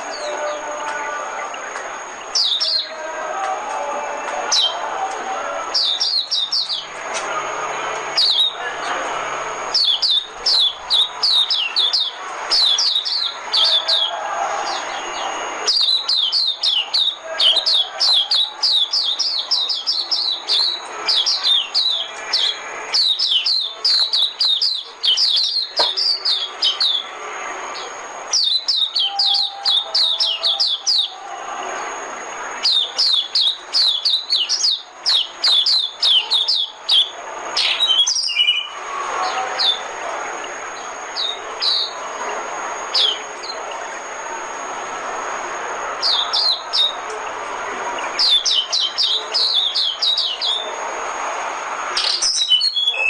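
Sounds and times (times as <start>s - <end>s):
bird singing high chirps: 0.0s - 3.2s, 4.4s - 7.0s, 7.6s - 9.0s, 9.7s - 31.2s, 32.6s - 43.9s, 46.0s - 47.1s, 48.0s - 50.8s, 52.0s - 53.0s.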